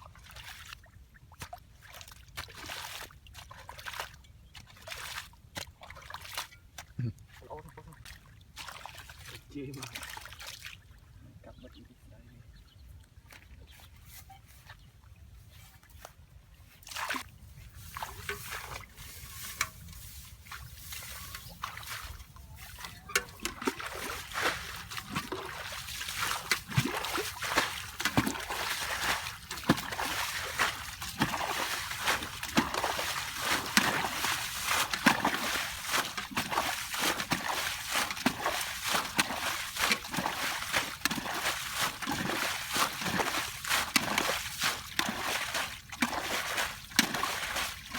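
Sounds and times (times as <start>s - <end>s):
water splashing and sloshing: 0.0s - 11.2s, 12.9s - 47.9s.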